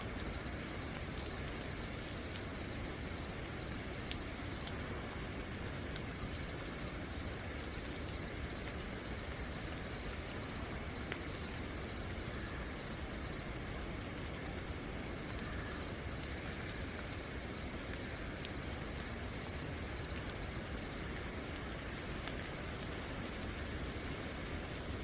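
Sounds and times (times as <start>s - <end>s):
crickets chirping: 0.0s - 25.0s
rain falling: 0.0s - 25.0s.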